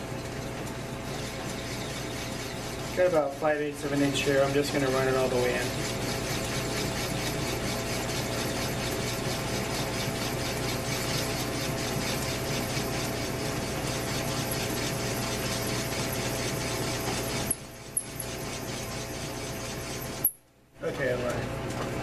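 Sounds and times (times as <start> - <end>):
lathe humming with rhythmic ticking: 0.0 - 22.0.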